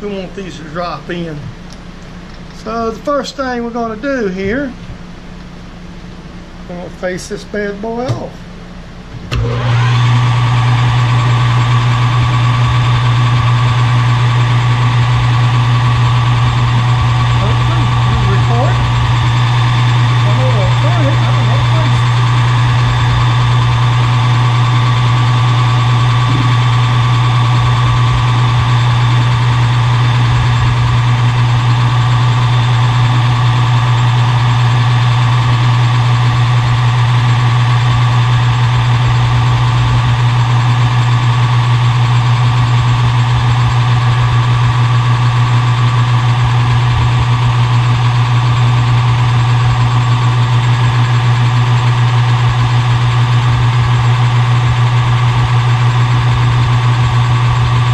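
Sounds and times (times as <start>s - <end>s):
metal lathe running: 9.3s - 57.9s.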